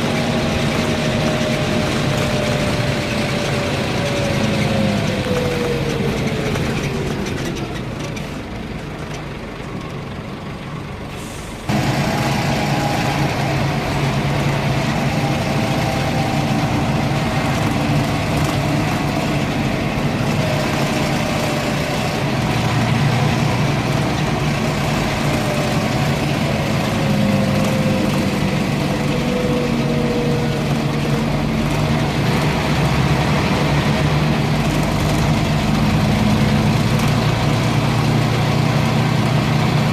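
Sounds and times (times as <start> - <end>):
bus engine whine: 0.0 - 39.9.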